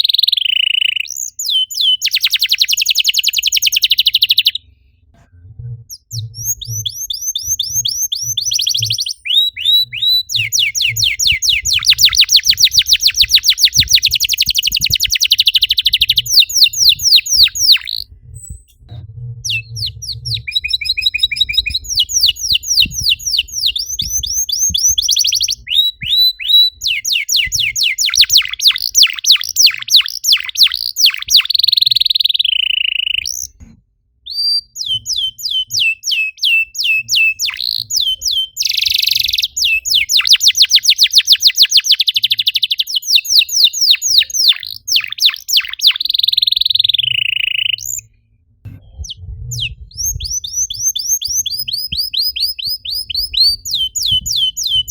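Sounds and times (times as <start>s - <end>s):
canary singing trills: 0.0s - 4.7s, 5.8s - 33.6s, 34.3s - 54.9s.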